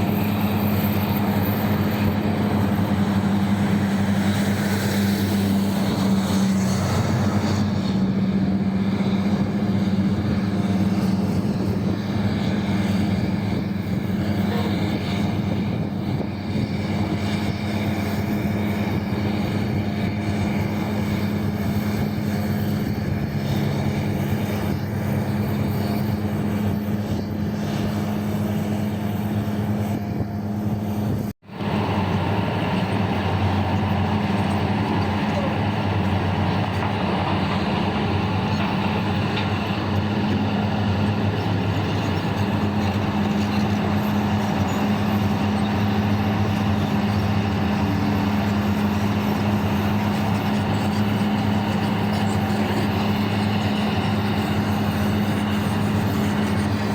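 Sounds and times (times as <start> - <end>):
diesel engines humming: 0.0 - 56.9.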